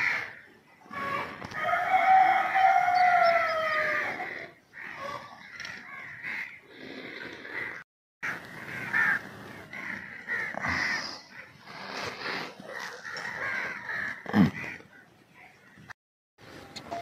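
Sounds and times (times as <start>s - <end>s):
crows cawing: 0.0s - 6.8s, 7.5s - 12.0s, 12.6s - 15.9s.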